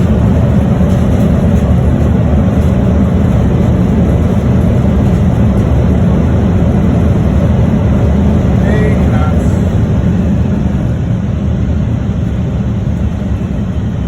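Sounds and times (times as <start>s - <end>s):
loud low rumble in cockpit: 0.0s - 14.0s.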